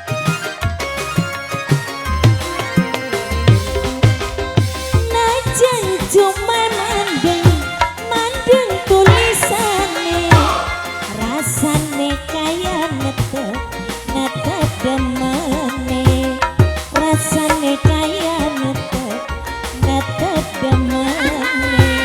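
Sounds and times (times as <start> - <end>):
hand drums: 0.0 - 22.0
live band playing: 0.0 - 22.0.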